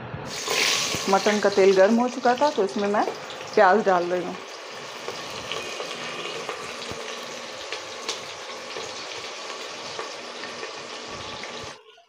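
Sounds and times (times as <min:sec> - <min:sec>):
onions sizzling in hot oil: 0:00.3 - 0:11.8.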